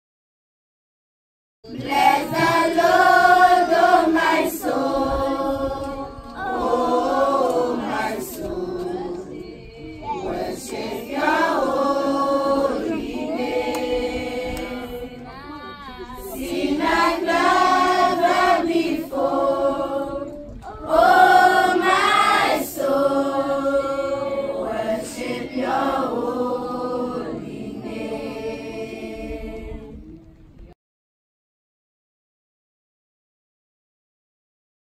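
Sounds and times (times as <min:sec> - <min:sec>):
children's choir singing: 0:01.7 - 0:30.2.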